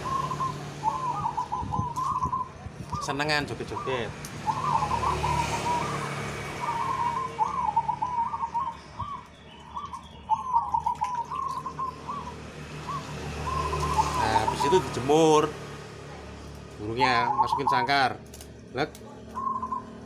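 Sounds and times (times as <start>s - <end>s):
doves cooing: 0.0s - 15.5s, 16.9s - 18.2s, 18.9s - 20.0s
road traffic rumble: 0.0s - 20.0s.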